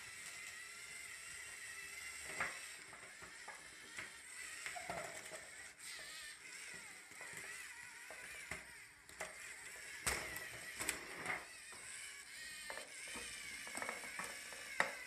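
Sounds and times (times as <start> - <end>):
toy robot motors whirring: 0.0 - 15.0
plastic parts clicking and knocking: 0.1 - 15.0.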